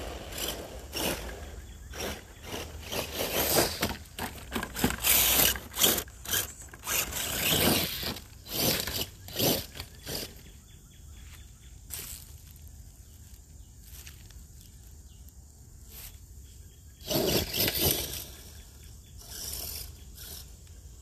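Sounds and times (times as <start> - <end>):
toy truck tyres crunching on gravel: 0.0 - 16.3, 17.0 - 21.0.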